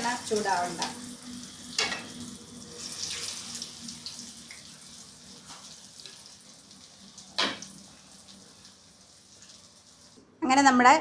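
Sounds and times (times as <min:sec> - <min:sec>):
oil sizzling and bubbling: 0:00.0 - 0:10.4.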